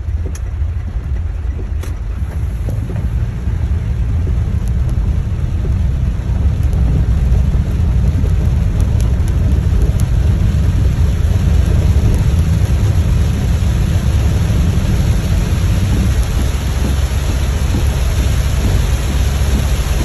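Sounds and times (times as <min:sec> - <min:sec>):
deep constant rumble: 0:00.0 - 0:20.0
heavy rain drumming on car: 0:00.0 - 0:20.0.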